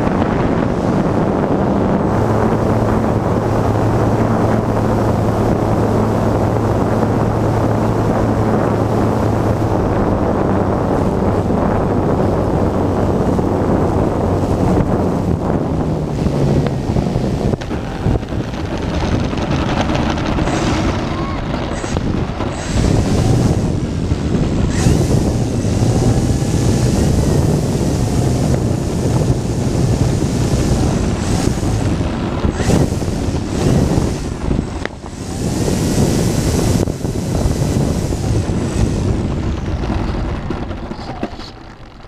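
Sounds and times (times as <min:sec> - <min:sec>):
wheels rolling on pavement: 0:00.0 - 0:42.0
wind buffeting microphone: 0:00.0 - 0:42.0.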